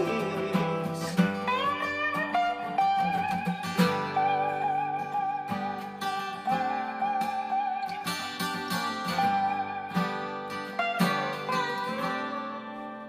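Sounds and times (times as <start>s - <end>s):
strummed acoustic guitar chords: 0.0s - 13.0s
held wavering high note: 1.4s - 13.0s.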